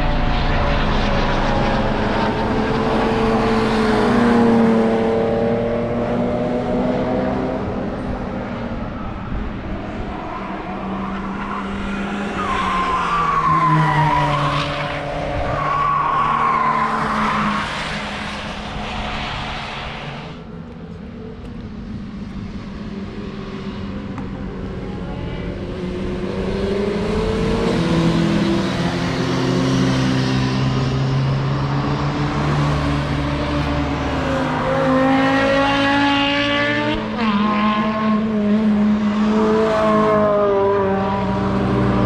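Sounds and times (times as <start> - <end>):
race cars driving past: 0.0 - 42.0.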